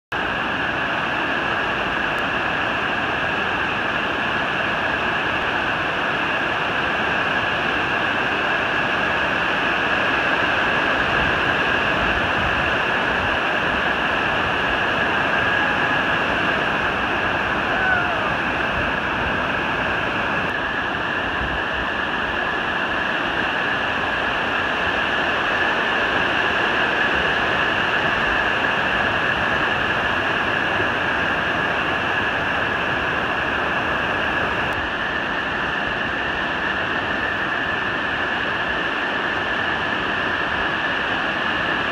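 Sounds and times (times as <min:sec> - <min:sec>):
whitewater rapids roaring: 0:00.2 - 0:41.9.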